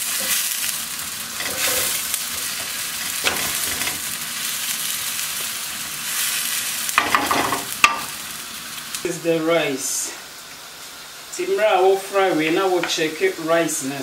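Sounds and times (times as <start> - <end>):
onion and garlic sizzling in oil: 0.0 - 14.0.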